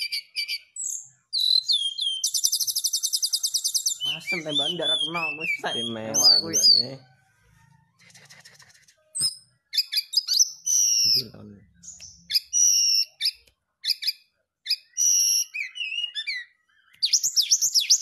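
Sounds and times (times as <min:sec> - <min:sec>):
bird singing whistled phrases: 0:00.0 - 0:07.0, 0:09.2 - 0:18.0.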